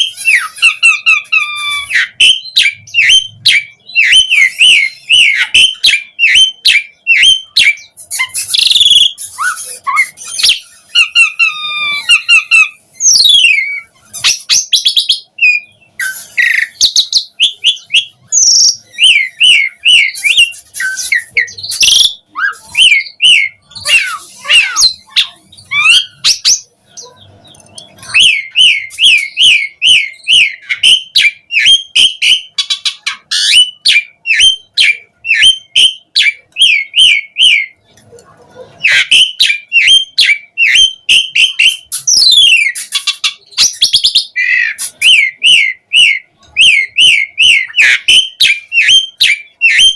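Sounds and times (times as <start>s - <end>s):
starling singing: 0.0s - 49.9s.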